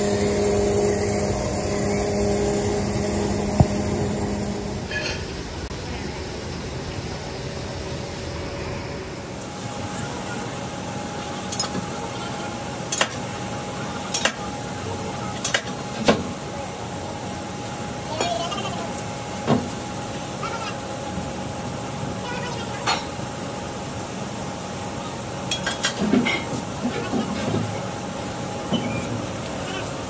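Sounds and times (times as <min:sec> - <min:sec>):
machine hum and hiss: 0:00.0 - 0:30.0.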